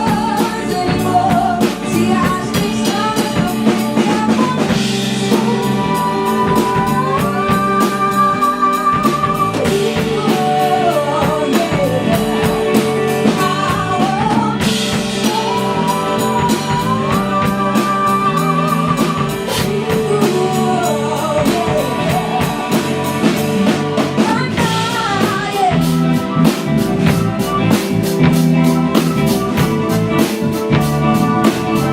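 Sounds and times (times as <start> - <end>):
woman singing with vibrato: 0.0 - 27.2
drum kit beat: 0.0 - 31.9
guitar: 0.0 - 31.9.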